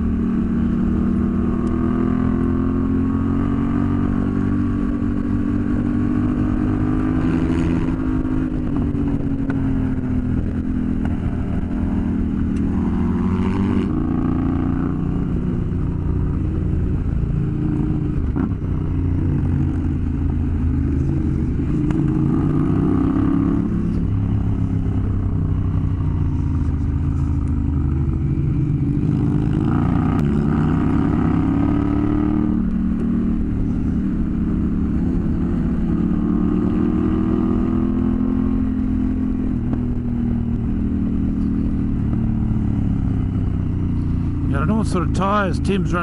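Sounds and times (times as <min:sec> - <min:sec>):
motorcycle engine running: 0:00.0 - 0:46.0
wind: 0:00.0 - 0:46.0.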